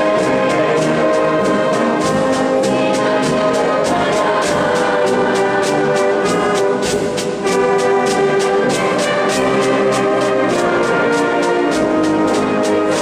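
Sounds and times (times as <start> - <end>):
brass chords: 0.0 - 13.0
steady percussion beat: 0.0 - 13.0
wind band playing a slow march: 0.0 - 13.0.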